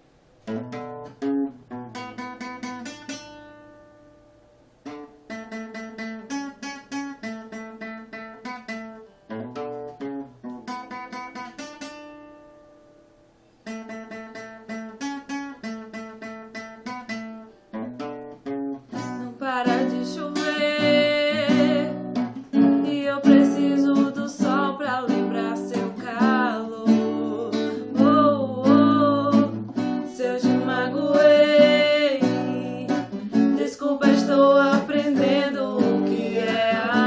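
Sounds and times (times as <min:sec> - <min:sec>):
acoustic guitar picking: 0:00.0 - 0:37.0.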